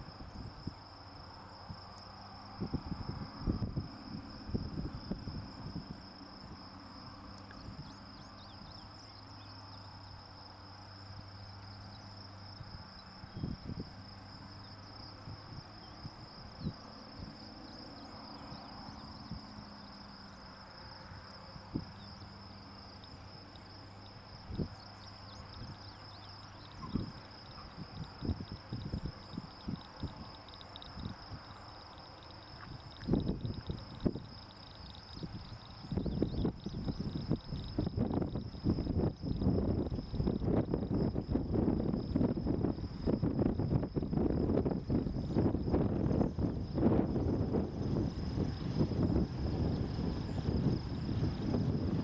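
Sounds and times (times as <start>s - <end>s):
insects chorus: 0.0s - 52.0s.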